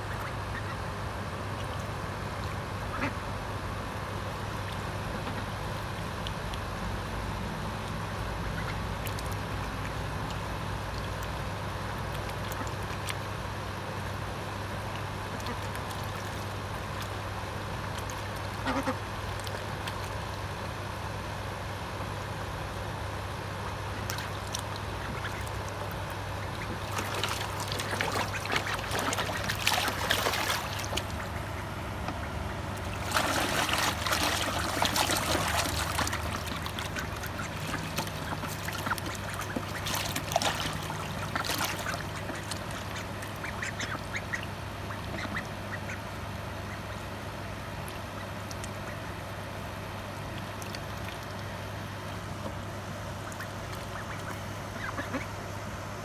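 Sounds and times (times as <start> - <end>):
ducks splashing in water: 0.0 - 3.3, 4.4 - 21.1, 23.6 - 55.5
ducks dabbling: 0.0 - 3.4, 4.2 - 21.4, 23.5 - 55.7.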